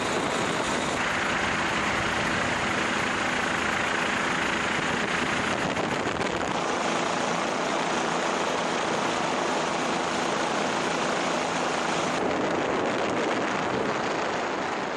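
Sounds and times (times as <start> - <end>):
helicopter engine and rotors: 0.0 - 14.9.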